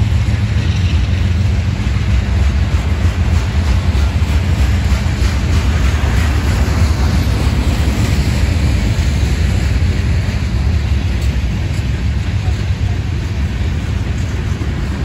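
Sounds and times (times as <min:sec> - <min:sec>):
freight train wheels rumbling: 0:00.0 - 0:15.0
wind buffeting microphone: 0:00.0 - 0:15.0.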